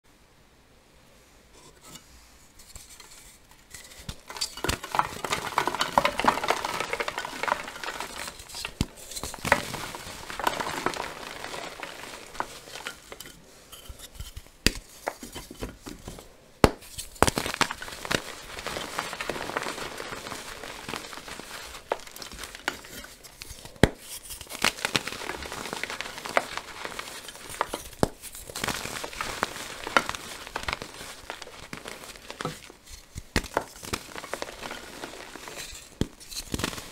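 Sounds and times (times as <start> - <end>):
chalk blocks snapping and crunching: 2.7 - 36.9.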